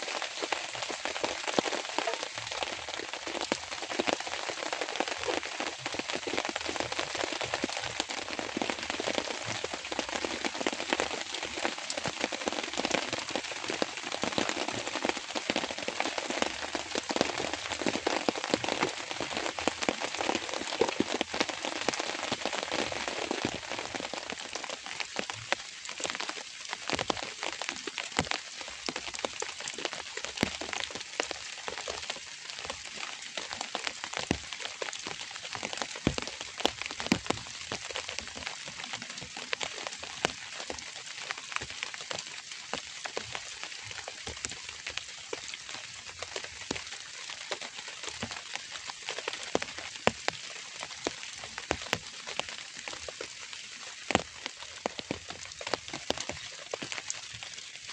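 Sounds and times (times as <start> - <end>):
rain patter: 0.0 - 57.9.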